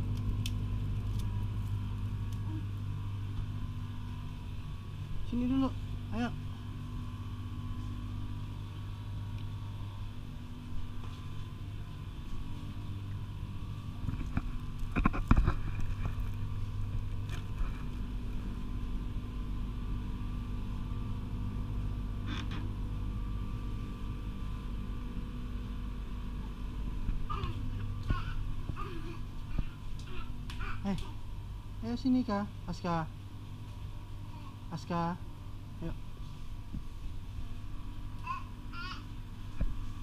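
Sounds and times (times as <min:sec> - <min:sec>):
refrigerated cabinets humming: 0:00.0 - 0:40.0.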